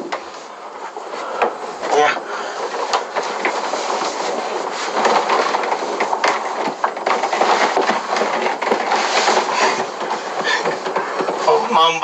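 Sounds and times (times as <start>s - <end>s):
knocks and bumps: 0.0s - 12.0s.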